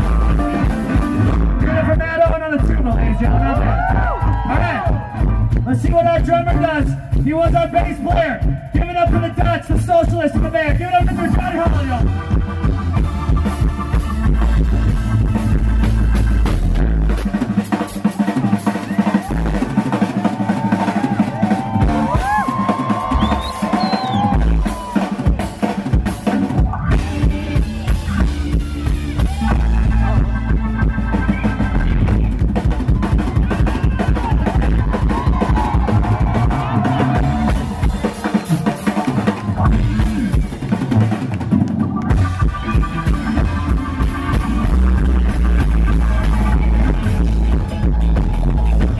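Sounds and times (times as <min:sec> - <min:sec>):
live band jamming: 0:00.0 - 0:48.9.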